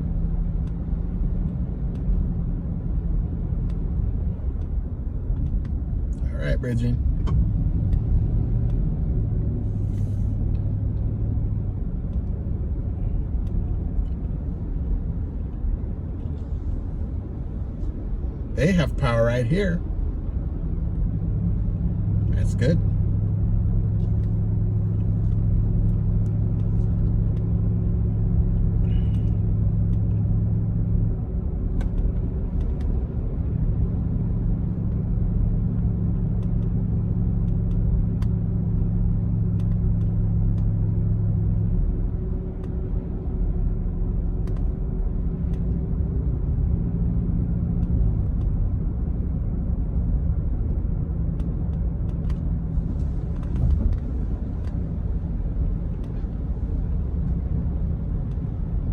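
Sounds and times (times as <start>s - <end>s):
vehicle engine and tyre noise: 0.0s - 58.9s.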